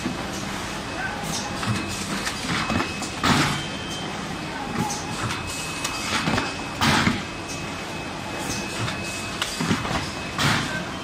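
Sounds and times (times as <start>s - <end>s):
machine mechanical hum: 0.0s - 11.0s.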